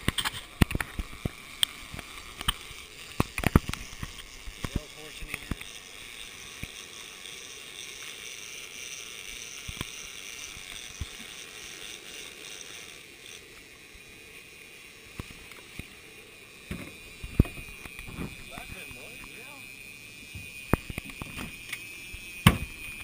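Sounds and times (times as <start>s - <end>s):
fishing reel whirring and clicking: 0.0s - 23.0s.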